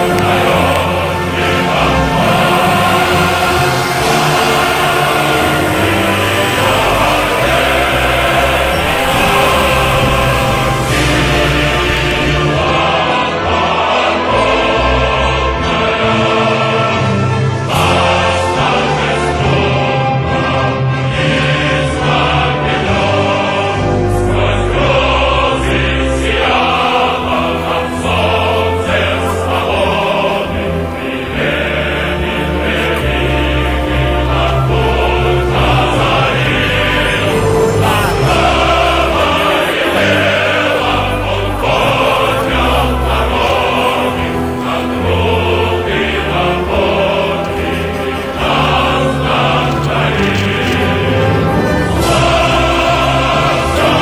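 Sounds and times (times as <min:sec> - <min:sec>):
choir singing slow chords: 0:00.0 - 0:54.0.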